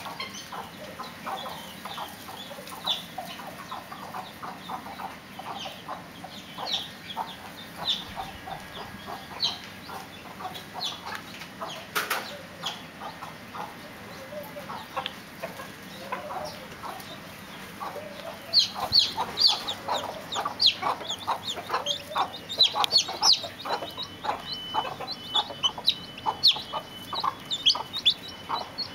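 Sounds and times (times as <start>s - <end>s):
chickens clucking: 0.0s - 28.9s
high chick peeps: 0.0s - 28.9s.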